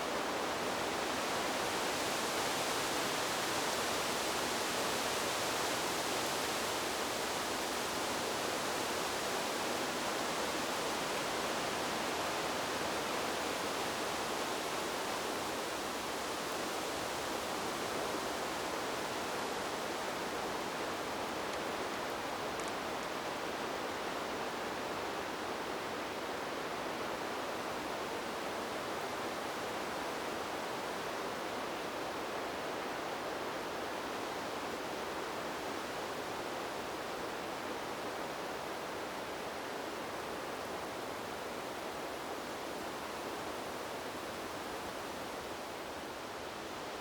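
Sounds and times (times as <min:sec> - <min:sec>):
wind rushing through trees: 0:00.0 - 0:47.0.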